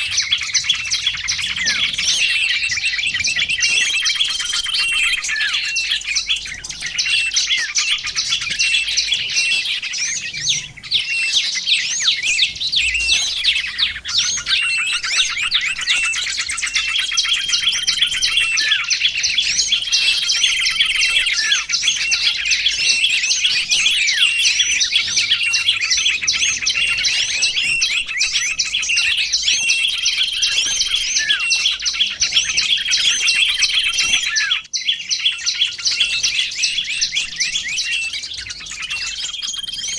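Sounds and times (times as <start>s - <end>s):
held whistled bird note: 0.0s - 39.9s
songbirds chirping and trilling: 0.0s - 39.9s.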